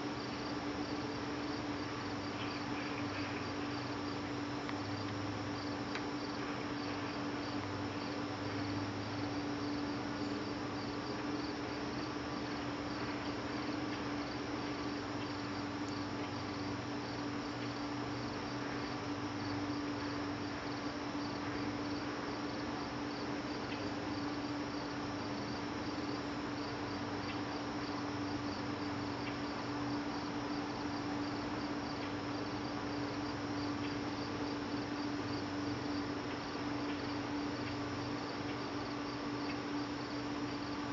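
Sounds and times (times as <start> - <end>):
constant low hum: 0.0 - 40.9
crickets chirping: 0.0 - 40.9.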